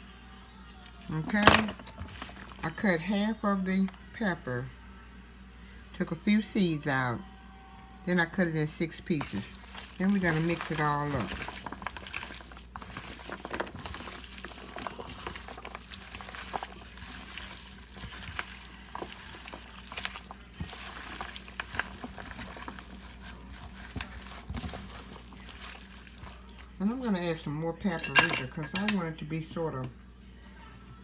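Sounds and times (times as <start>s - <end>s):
food mixed in a bowl: 0.5s - 4.7s, 5.7s - 29.9s.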